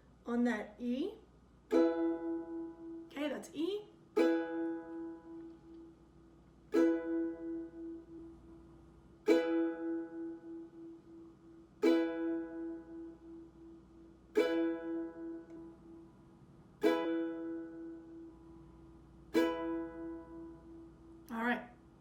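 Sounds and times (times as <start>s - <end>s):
ukulele chord strummed: 1.7s - 3.1s, 4.0s - 16.2s, 16.8s - 21.2s.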